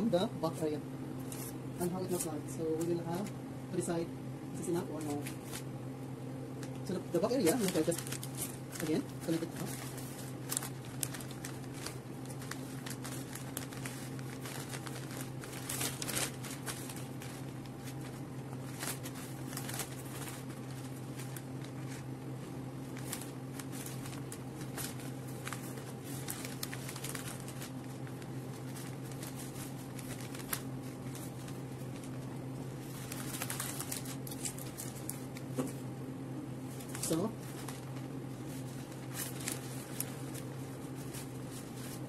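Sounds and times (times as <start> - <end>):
wrapping paper rustling: 1.2 - 3.4, 4.6 - 5.7, 6.5 - 35.9, 36.6 - 42.0.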